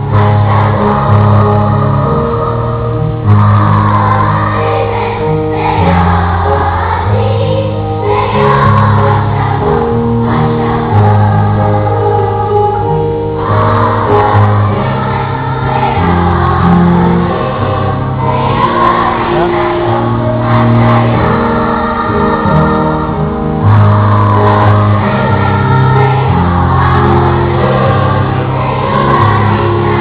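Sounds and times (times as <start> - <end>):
choir singing: 0.0 - 30.0
sustained low chords: 0.0 - 30.0.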